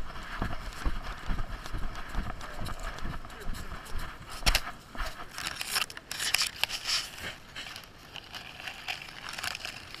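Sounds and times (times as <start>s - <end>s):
grass rustling and crackling: 0.0s - 10.0s.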